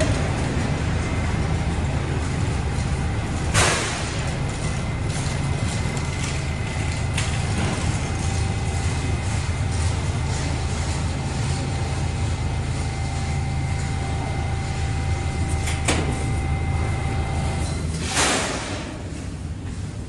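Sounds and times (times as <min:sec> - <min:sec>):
subway train humming: 0:00.0 - 0:20.0.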